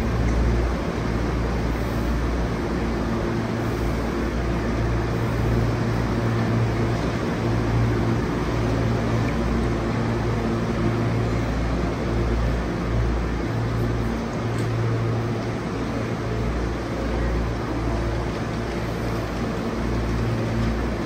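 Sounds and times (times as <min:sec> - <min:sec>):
electric train rumble and hum: 0:00.0 - 0:21.0.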